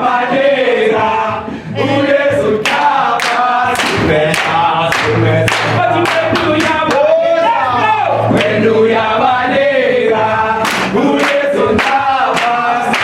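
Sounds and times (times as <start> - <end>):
choir singing over a beat: 0.0 - 13.0.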